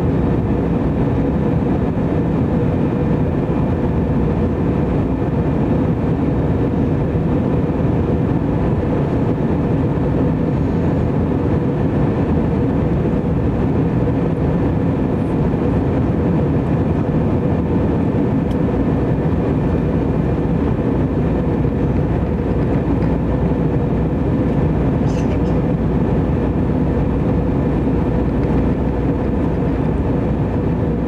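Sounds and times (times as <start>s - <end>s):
aircraft cabin engine drone: 0.0s - 31.0s.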